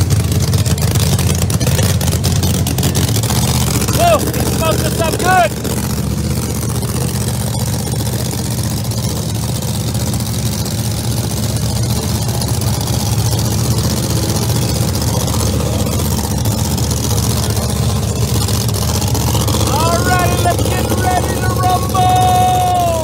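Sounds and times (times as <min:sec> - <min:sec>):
race car engine idling: 0:00.0 - 0:23.0.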